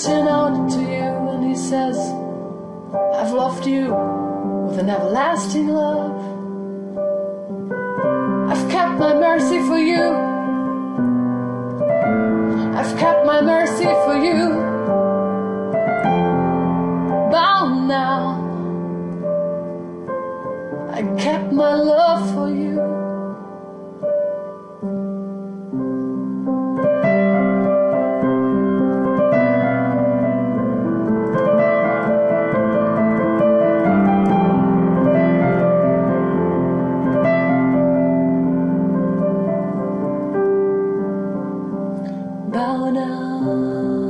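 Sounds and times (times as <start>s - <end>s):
solo piano chords: 0.0s - 44.0s.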